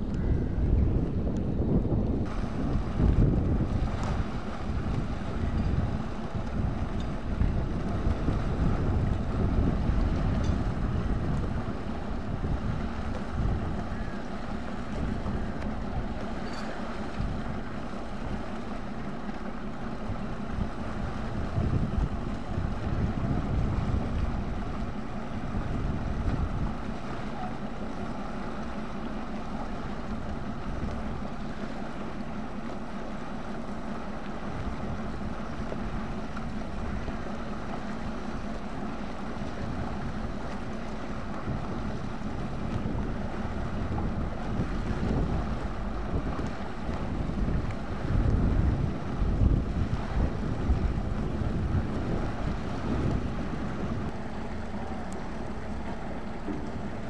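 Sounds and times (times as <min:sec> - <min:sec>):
boat engine drone: 0:00.0 - 0:57.0
wind buffeting microphone: 0:00.0 - 0:57.0.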